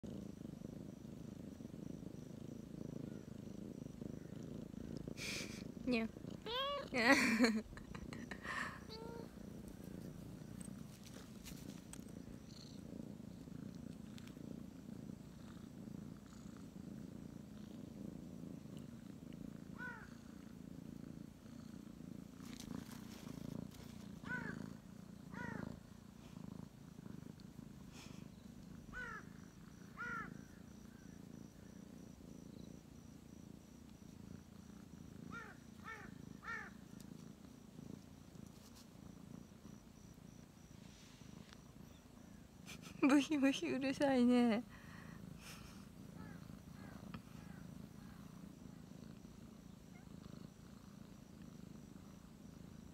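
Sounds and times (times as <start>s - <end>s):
kitten purring: 0.0s - 52.9s.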